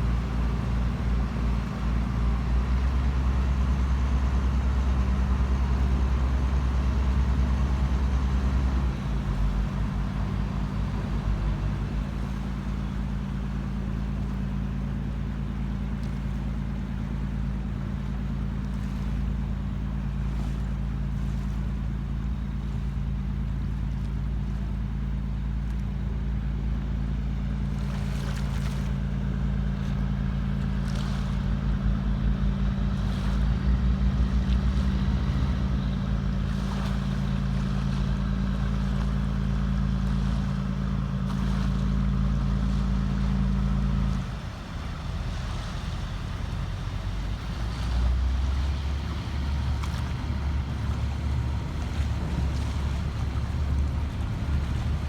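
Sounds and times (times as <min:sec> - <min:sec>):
ferry engine droning: 0:00.0 - 0:55.0
low engine note: 0:00.0 - 0:55.0
water wash: 0:00.0 - 0:55.0.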